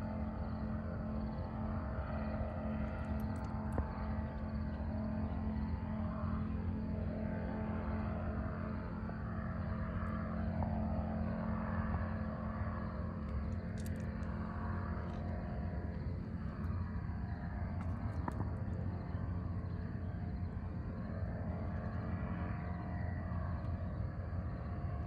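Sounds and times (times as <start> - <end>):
paraglider engine and propeller droning: 0.0 - 25.0.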